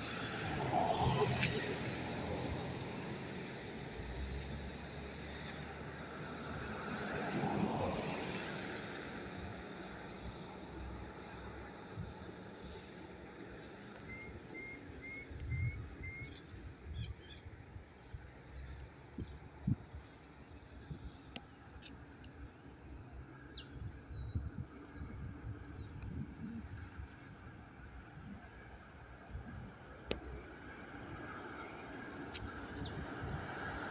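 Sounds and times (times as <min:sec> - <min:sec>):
insects droning: 0:00.0 - 0:33.9.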